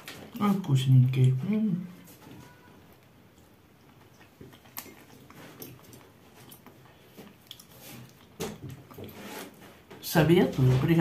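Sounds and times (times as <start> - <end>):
person chewing salad: 0.0 - 9.9.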